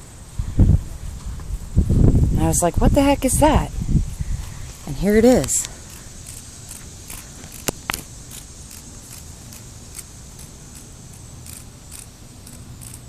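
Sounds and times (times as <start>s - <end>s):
cicada buzzing pulses: 0.0s - 13.0s.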